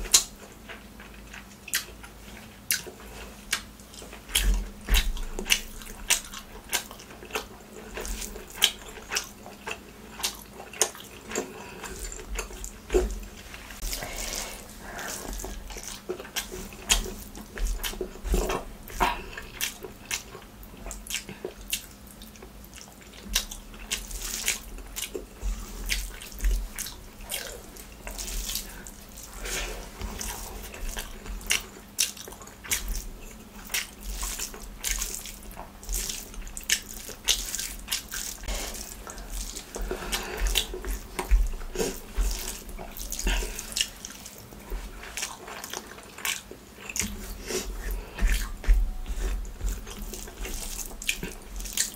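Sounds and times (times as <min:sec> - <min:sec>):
chewing and lip smacks: 0:00.0 - 0:51.9.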